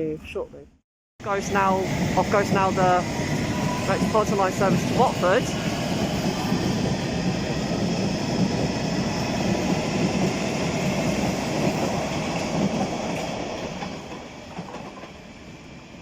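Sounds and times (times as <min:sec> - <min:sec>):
train pulling out rumbling: 0:01.2 - 0:16.0.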